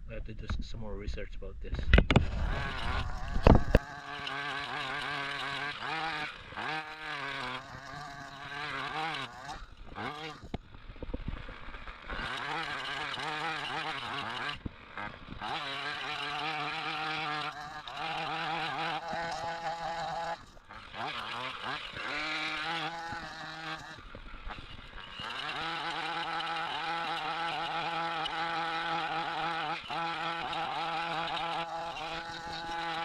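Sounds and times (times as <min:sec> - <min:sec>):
chainsaw engine revving: 0:02.1 - 0:33.0.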